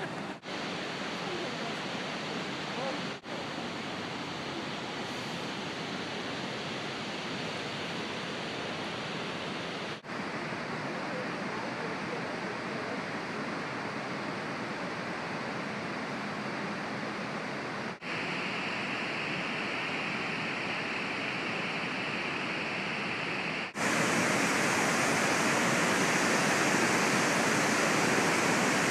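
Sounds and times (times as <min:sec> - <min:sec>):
heavy water rushing over spillway: 0:00.0 - 0:28.9.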